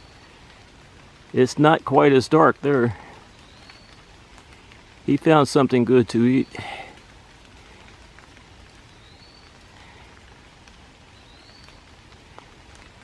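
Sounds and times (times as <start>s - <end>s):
light rain on leaves: 0.0s - 13.0s.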